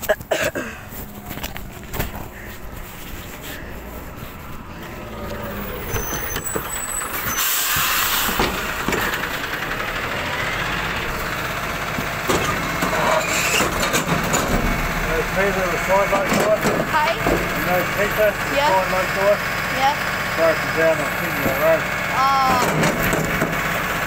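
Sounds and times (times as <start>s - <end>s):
rubbish truck engine running: 0.0s - 24.0s.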